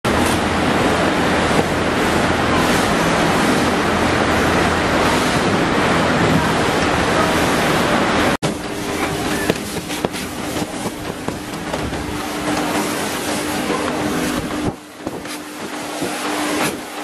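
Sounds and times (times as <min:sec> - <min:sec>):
workshop rushing noise: 0:00.1 - 0:17.0.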